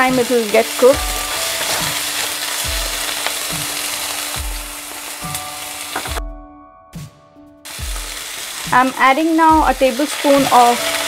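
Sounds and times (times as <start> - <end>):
chicken sizzling in oil: 0.0 - 6.2, 7.7 - 11.0
soft background music with beat: 0.0 - 11.0.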